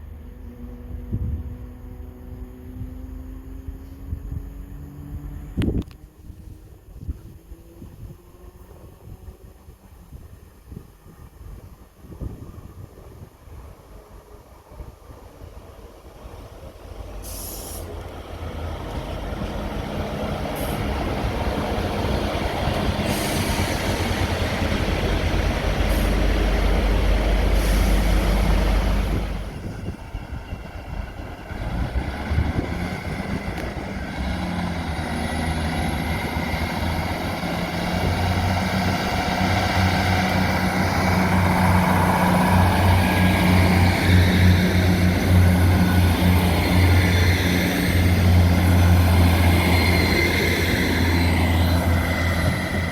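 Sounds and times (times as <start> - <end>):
train passing: 0.0 - 52.9.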